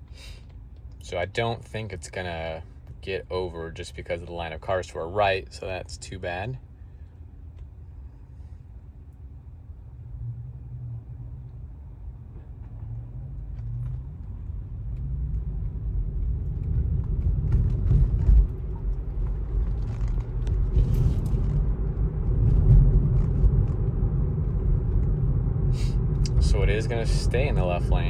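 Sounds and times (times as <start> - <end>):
road and tyre rumble: 0.0 - 28.0.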